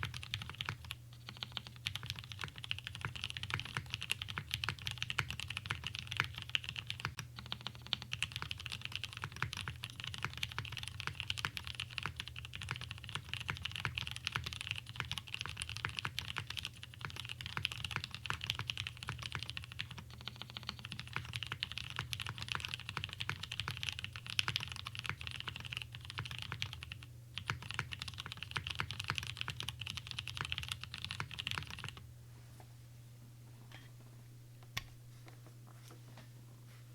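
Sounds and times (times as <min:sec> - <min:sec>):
fast typing on mechanical keyboard: 0:00.0 - 0:32.0.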